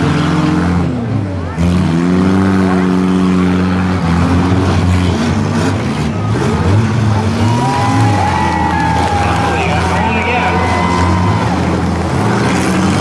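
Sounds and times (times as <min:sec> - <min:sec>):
car engines revving: 0:00.0 - 0:13.0
steady noisy din: 0:00.0 - 0:13.0.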